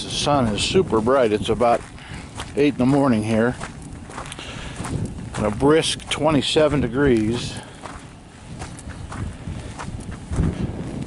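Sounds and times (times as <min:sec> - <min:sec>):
uneven footsteps: 0:00.0 - 0:11.0.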